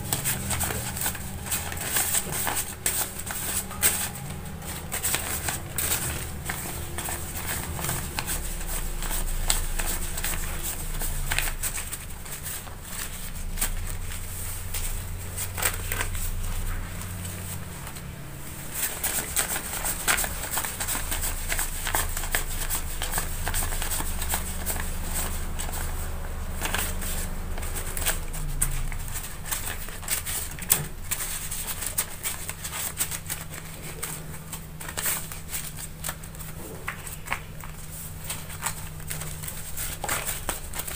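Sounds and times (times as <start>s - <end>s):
paper banknotes rustling: 0.0s - 40.9s.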